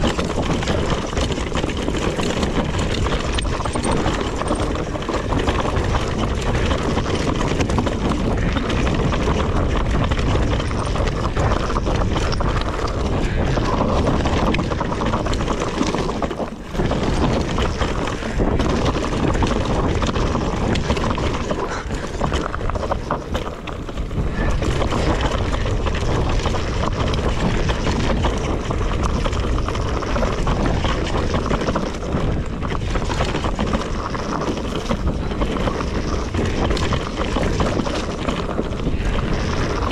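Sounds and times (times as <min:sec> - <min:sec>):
bike chain and frame rattle: 0:00.0 - 0:39.9
bike tyre noise on dirt: 0:00.0 - 0:39.9
wind buffeting microphone: 0:00.0 - 0:39.9.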